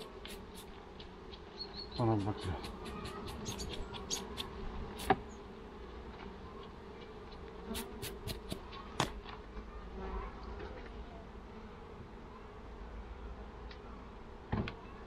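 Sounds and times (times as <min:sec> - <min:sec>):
bees buzzing: 0:00.0 - 0:12.2.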